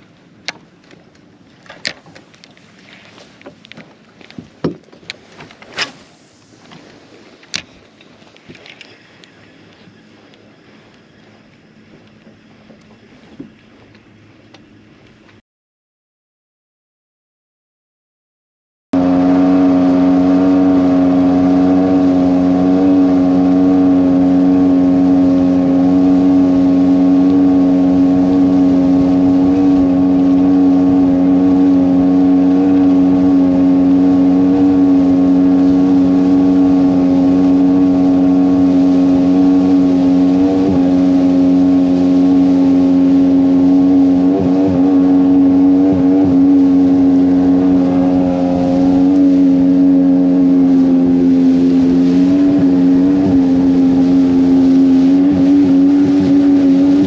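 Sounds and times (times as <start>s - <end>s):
outboard motor running: 0.0s - 15.4s, 19.0s - 57.0s.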